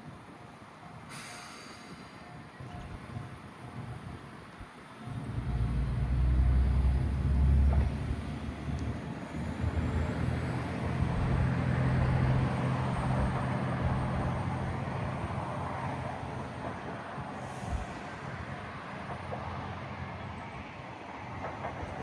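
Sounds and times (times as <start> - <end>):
train passing with rumble: 0.0 - 22.0.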